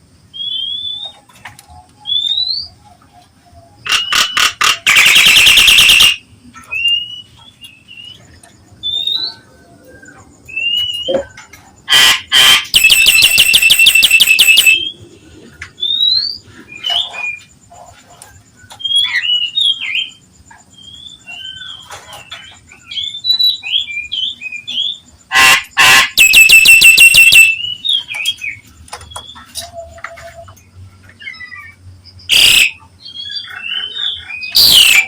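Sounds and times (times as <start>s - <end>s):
myna bird calling: 0.4s - 35.0s.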